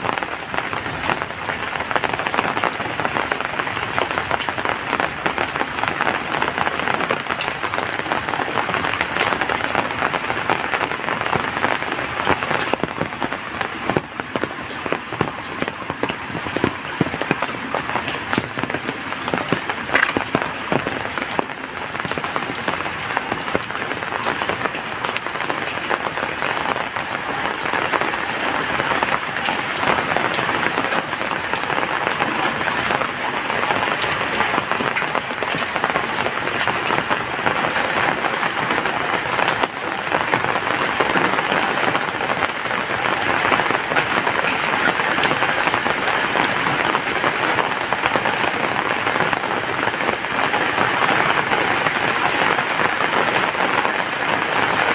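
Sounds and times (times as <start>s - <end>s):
heavy rain hissing: 0.0s - 54.9s
raindrops ticking close by: 0.0s - 54.9s.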